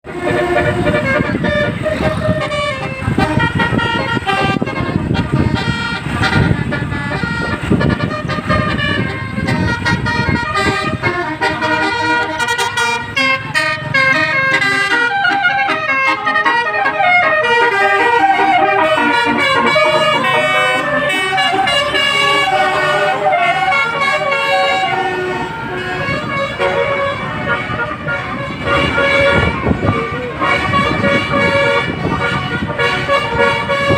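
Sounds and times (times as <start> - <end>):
bus engine rumbling: 0.0 - 33.9
bus horn playing melodic tunes: 0.0 - 33.9.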